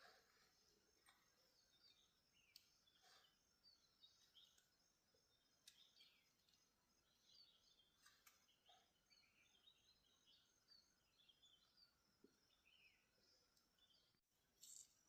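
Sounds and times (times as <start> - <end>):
birds chirping: 0.0 - 14.2.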